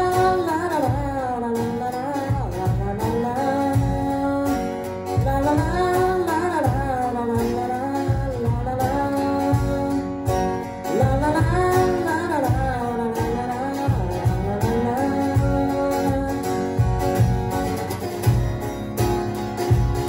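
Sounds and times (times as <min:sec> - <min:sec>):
man singing: 0:00.0 - 0:17.3
acoustic guitar: 0:00.0 - 0:20.0
cajon beating a rhythm: 0:00.0 - 0:20.0.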